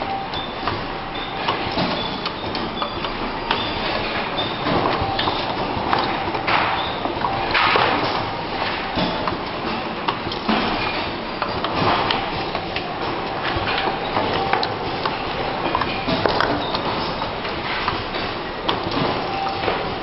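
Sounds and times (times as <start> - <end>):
machine clacking and knocking: 0.0 - 20.0.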